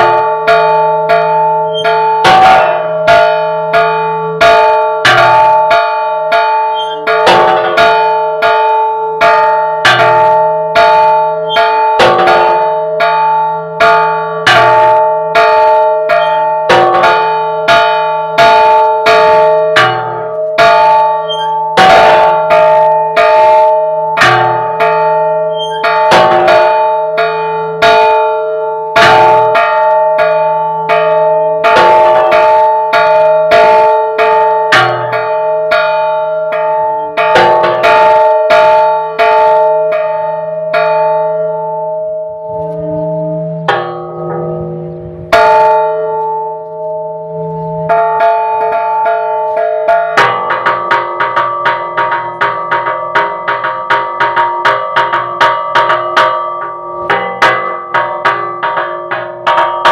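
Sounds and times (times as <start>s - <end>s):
church bells struck by hand: 0.0s - 59.9s.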